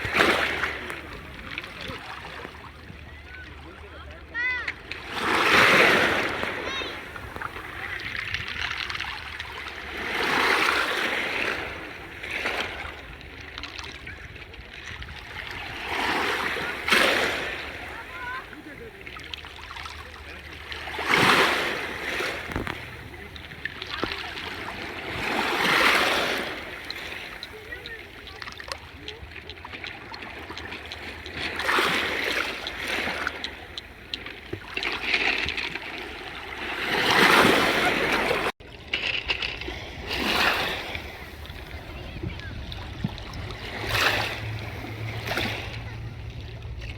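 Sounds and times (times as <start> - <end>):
small waves washing onto shore: 0.0 - 46.9.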